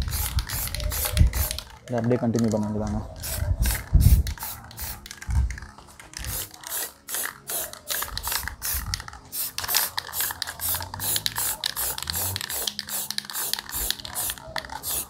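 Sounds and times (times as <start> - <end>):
spray-paint can hissing in bursts: 0.0 - 1.7, 3.2 - 5.1, 6.2 - 15.0.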